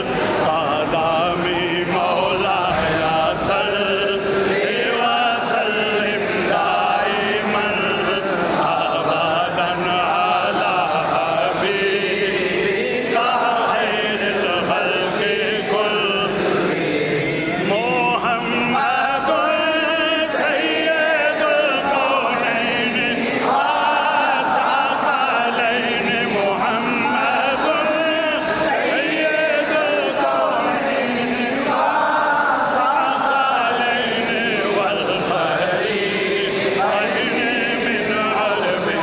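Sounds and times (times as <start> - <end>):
religious vocal chanting: 0.0 - 39.0.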